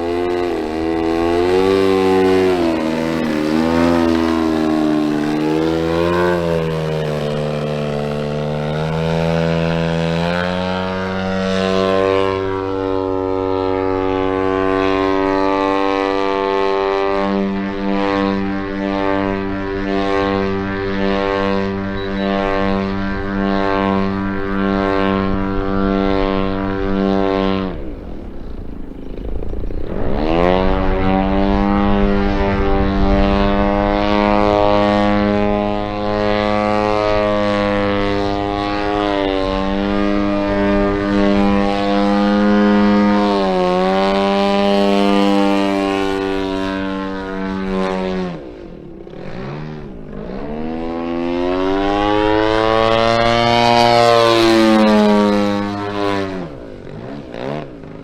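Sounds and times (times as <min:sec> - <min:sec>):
model plane engine at high power: 0:00.0 - 0:58.0.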